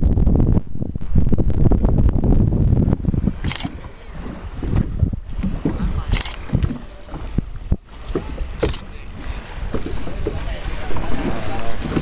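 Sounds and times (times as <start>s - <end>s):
water rushing past boat hull: 0.0s - 12.0s
wind buffeting microphone: 0.0s - 12.0s.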